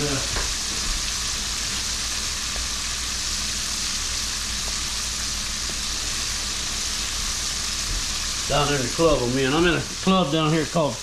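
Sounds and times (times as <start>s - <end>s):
frying in hot oil: 0.0s - 11.0s.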